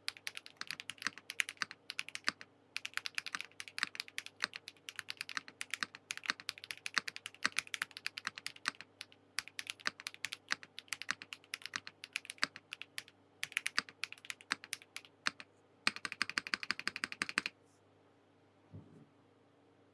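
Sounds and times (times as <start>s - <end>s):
mechanical keyboard typing: 0.0s - 17.5s.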